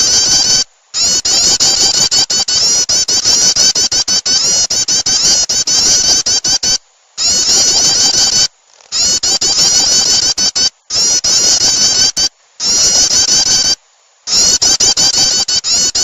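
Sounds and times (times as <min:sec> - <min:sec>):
recorded bird chirps: 0:00.0 - 0:16.0.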